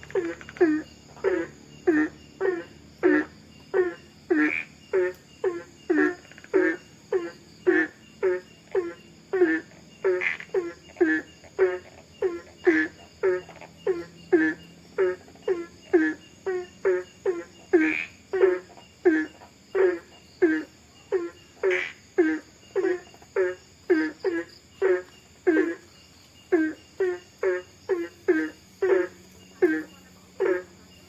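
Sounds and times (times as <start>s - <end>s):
frogs croaking: 0.0s - 31.0s.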